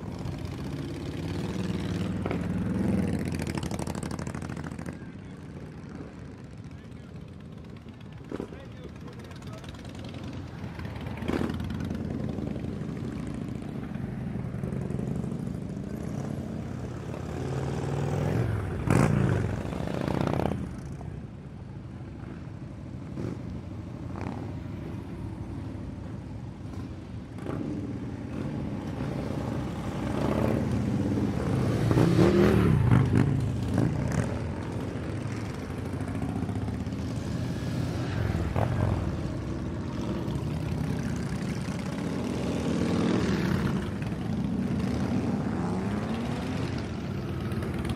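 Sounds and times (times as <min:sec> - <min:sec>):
motorcycles revving and passing: 0:00.0 - 0:47.9.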